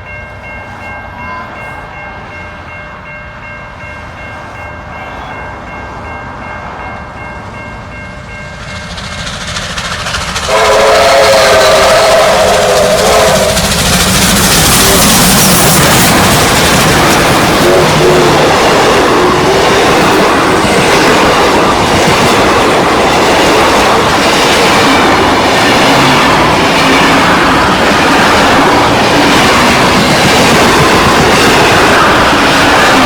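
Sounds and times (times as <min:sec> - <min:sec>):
train carriages rumbling over rails: 0:00.0 - 0:33.0.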